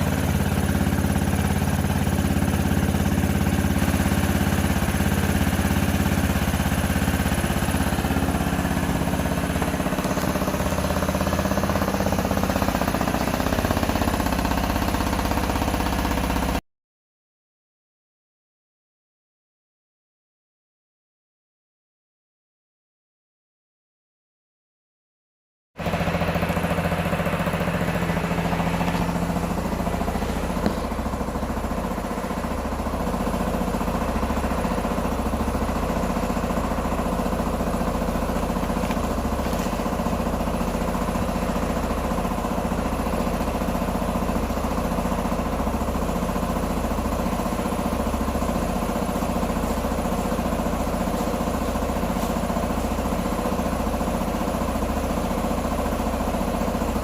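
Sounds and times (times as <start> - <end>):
motorcycle engine idling: 0.0 - 16.6, 25.8 - 57.0.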